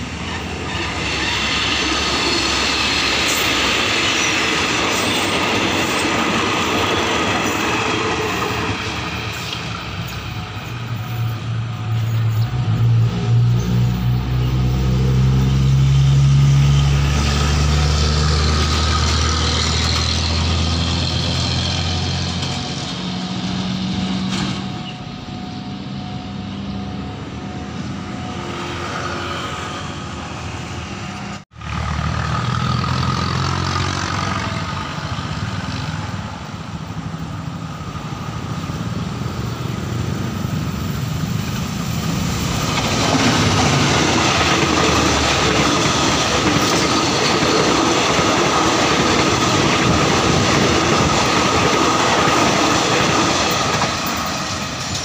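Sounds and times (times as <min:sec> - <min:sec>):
heavy diesel road traffic: 0:00.0 - 0:55.0
train: 0:00.0 - 0:55.0.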